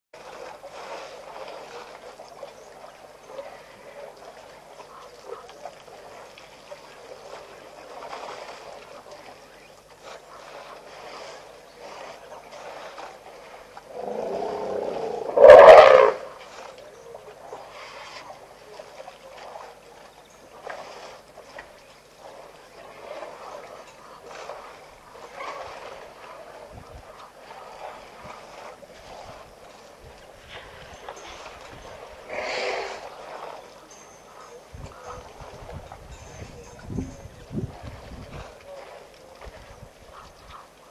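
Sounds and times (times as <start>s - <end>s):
steady outdoor hiss: 0.2s - 40.9s
water splashing and trickling: 0.2s - 40.9s.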